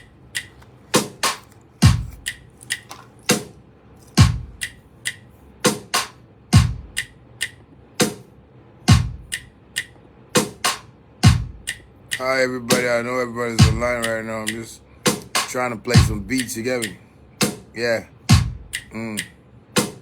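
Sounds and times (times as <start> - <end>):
instrumental hip-hop beat: 0.0 - 20.0.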